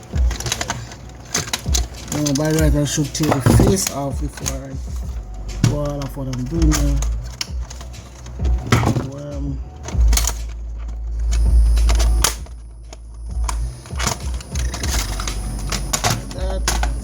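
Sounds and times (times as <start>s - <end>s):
clicks and knocks of handling: 0.0s - 17.0s
low handling rumble: 1.1s - 17.0s.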